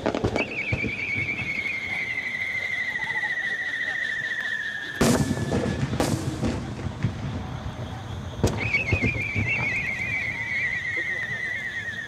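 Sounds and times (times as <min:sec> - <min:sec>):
fireworks bursting: 0:00.0 - 0:12.0
fireworks crackling: 0:00.0 - 0:12.0
whistling firework shell: 0:00.0 - 0:12.0.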